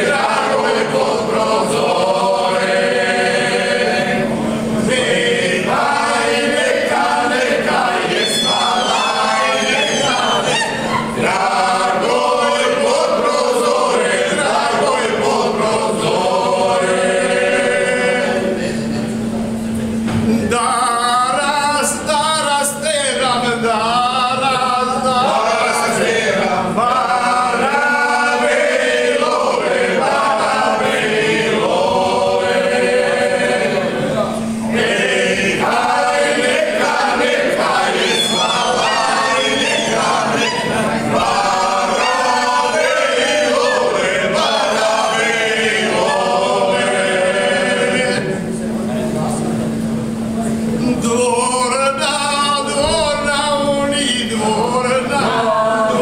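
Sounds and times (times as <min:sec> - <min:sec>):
group singing unaccompanied: 0:00.0 - 0:19.1, 0:20.5 - 0:48.5, 0:51.0 - 0:56.0.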